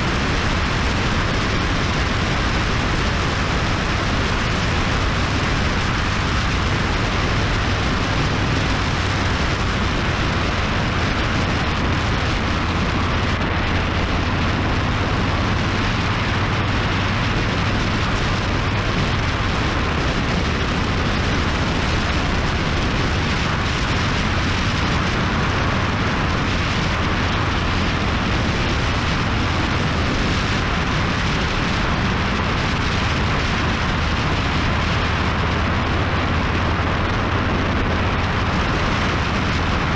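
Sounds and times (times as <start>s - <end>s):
motorcycle engine drone: 0.0s - 39.9s
wind rush over microphone: 0.0s - 39.9s.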